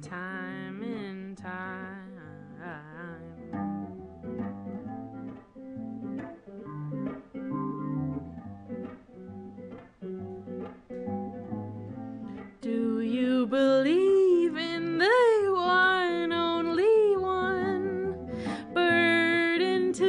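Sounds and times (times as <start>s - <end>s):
acoustic guitar strumming chords: 0.0s - 13.1s, 14.2s - 20.0s.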